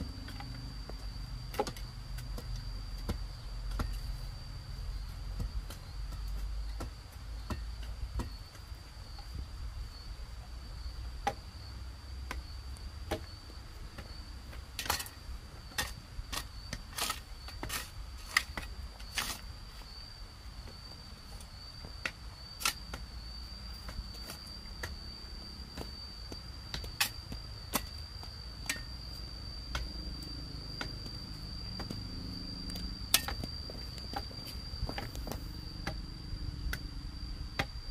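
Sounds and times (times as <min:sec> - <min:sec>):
hoes chopping stony soil: 0:00.0 - 0:09.5, 0:10.8 - 0:11.5, 0:12.2 - 0:37.9
high insect drone: 0:00.0 - 0:37.9.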